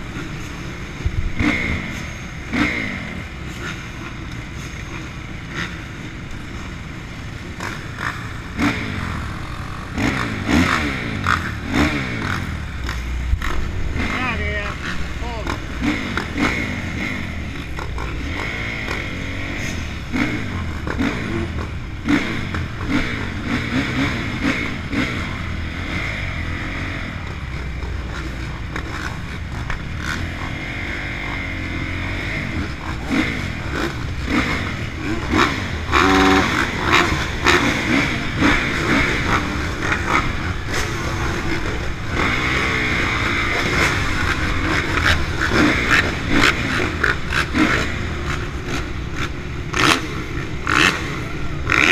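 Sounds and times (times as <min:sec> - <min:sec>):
motocross engine idling and revving: 0:00.0 - 0:51.9
other motocross bikes revving: 0:00.0 - 0:51.9.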